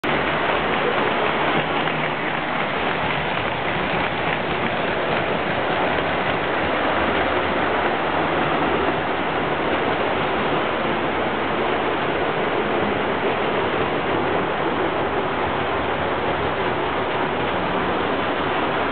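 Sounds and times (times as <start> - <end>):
model train running: 0.0 - 18.9.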